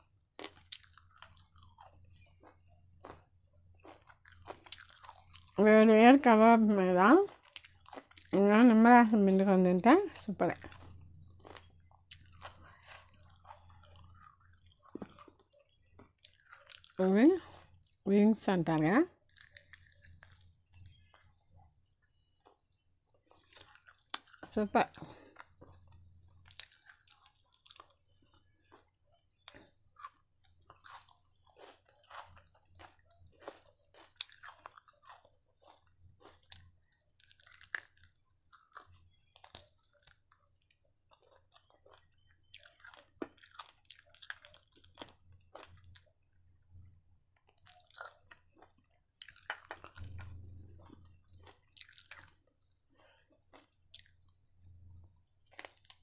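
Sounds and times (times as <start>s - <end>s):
person chewing crunchy food: 0.1s - 5.6s, 7.0s - 8.8s, 10.0s - 18.1s, 19.2s - 56.0s.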